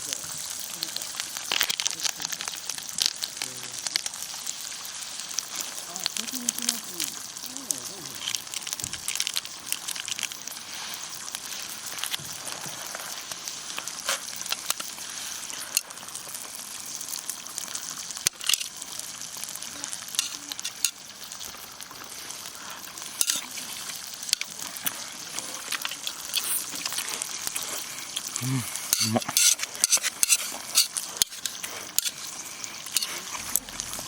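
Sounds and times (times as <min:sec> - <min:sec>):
steak sizzling on hot stone: 0:00.0 - 0:34.0.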